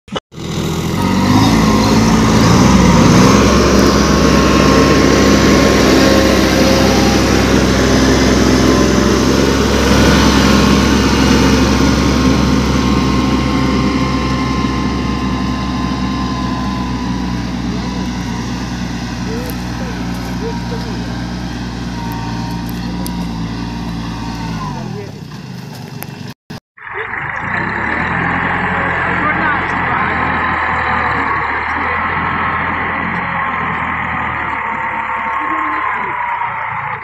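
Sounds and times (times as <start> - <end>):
diesel tractors running under load: 0.1 - 37.0.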